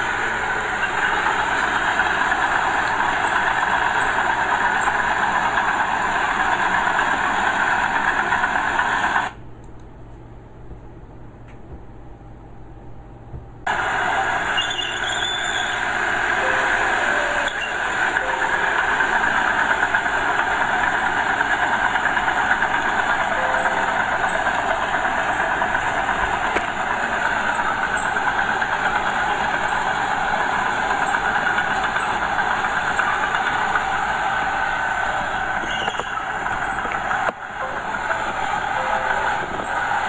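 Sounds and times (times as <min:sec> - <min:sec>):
bulldozer diesel engine running: 0:00.0 - 0:09.4, 0:13.7 - 0:40.0.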